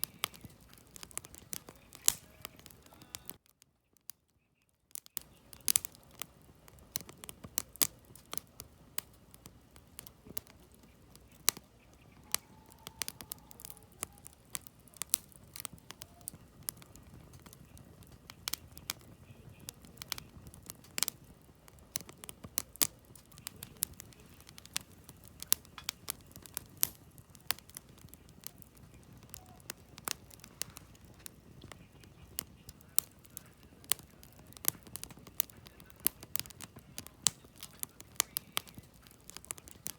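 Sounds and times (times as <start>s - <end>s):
low rush of flame: 0.0s - 3.4s, 5.2s - 39.9s
campfire crackling and popping: 0.0s - 39.9s.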